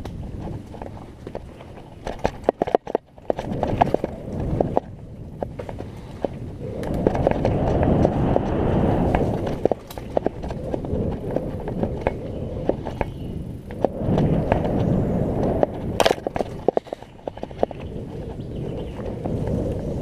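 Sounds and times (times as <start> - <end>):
bike rattles and knocks: 0.0 - 20.0
bike tyre rumble: 0.0 - 20.0.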